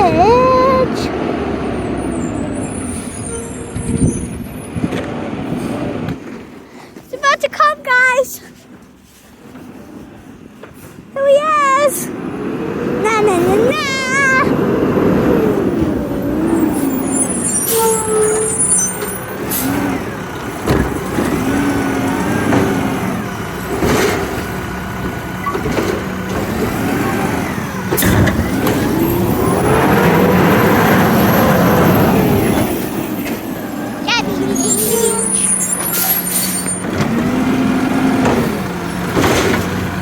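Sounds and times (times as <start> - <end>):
garbage truck engine: 0.0 - 40.0.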